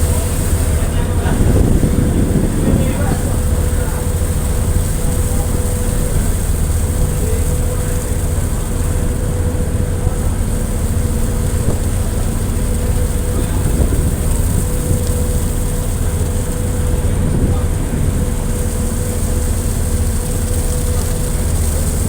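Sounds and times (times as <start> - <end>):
sea: 0.0 - 22.0
ship engine droning: 0.0 - 22.0
wind: 0.0 - 22.0.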